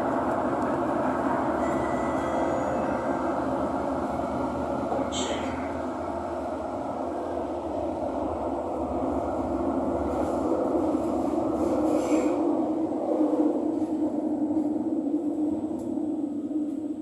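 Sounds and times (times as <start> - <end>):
metro train rumbling: 0.0 - 17.0
train hum: 0.0 - 17.0.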